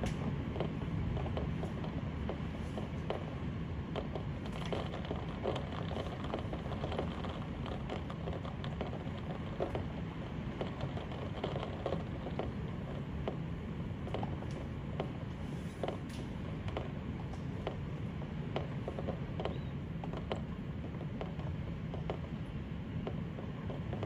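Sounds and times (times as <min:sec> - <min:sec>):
raindrops tapping: 0:00.0 - 0:24.0.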